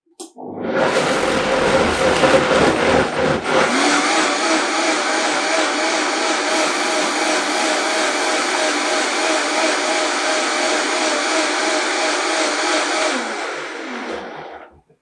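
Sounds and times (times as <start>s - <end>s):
blender whirring: 0.2s - 14.8s
blender motor winding down: 0.4s - 14.8s.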